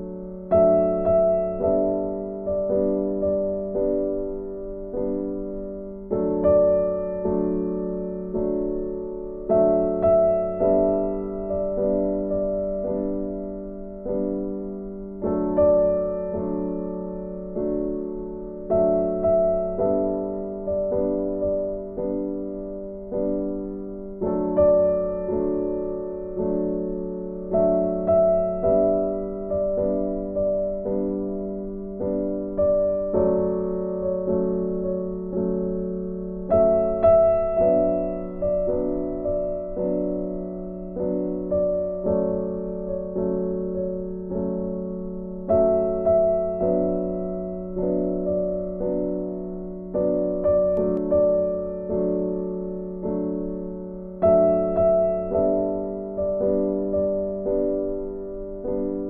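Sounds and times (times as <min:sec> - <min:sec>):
slow gentle piano chords: 0:00.0 - 0:59.0.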